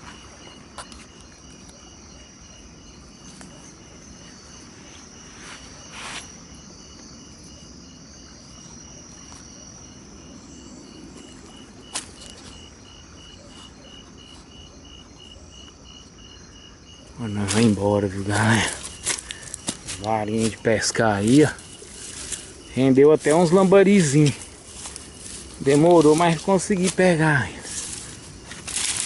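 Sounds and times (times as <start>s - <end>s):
cricket chirping: 0.0s - 29.0s
high insect drone: 0.0s - 29.0s.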